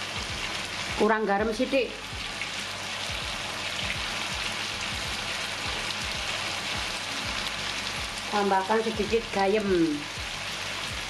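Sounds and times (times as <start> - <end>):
sauce sizzling in a wok: 0.0 - 11.0.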